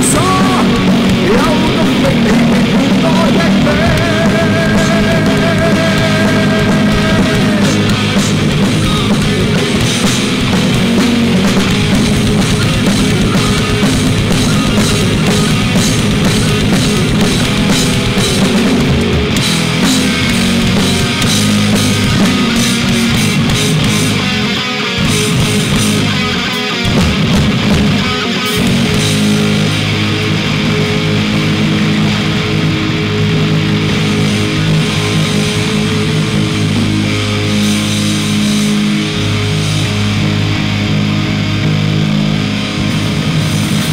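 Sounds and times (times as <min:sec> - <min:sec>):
drum kit beat: 0:00.0 - 0:40.4
bass guitar: 0:00.0 - 0:43.9
electric guitars: 0:00.0 - 0:43.9
live rock band playing: 0:00.0 - 0:43.9.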